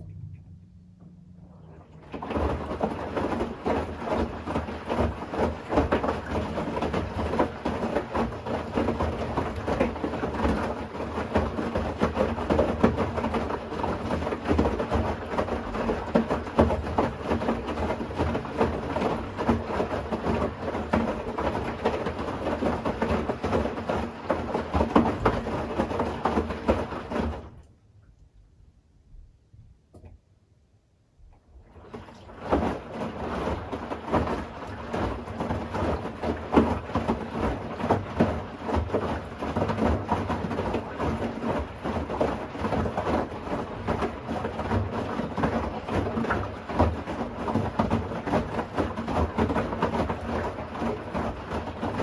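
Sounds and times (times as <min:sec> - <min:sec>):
washing machine drum turning: 0:00.0 - 0:27.6, 0:31.8 - 0:52.0
laundry and water sloshing: 0:00.0 - 0:27.8, 0:31.4 - 0:52.0.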